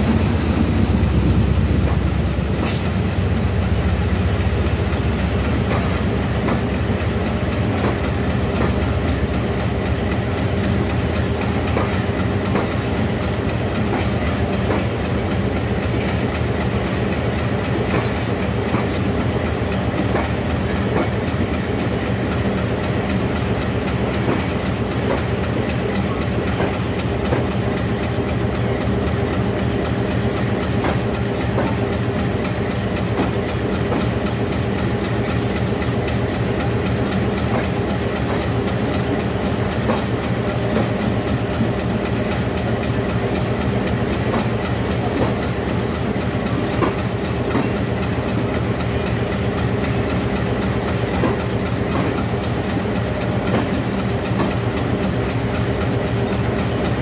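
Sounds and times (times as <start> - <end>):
train rumble: 0.0 - 57.0
train wheels clicking over rail joints: 0.0 - 57.0.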